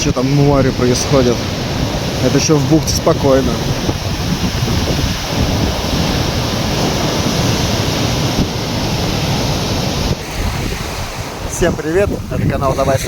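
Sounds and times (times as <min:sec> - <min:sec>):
waves breaking on shore: 0:00.0 - 0:13.0
wind buffeting microphone: 0:00.0 - 0:13.0.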